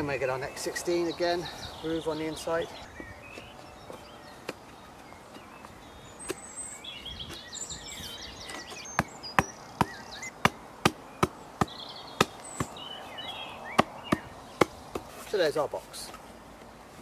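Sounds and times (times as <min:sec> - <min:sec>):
chirping calls: 0:00.4 - 0:15.0.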